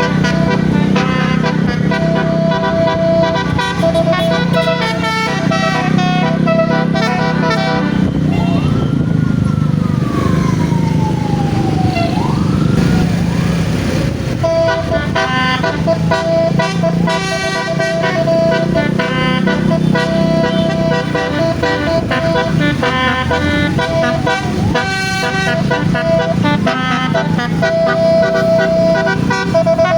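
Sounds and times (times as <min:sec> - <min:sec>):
musical horn melody: 0:00.0 - 0:09.0, 0:14.3 - 0:29.9
engine hum: 0:00.0 - 0:29.9.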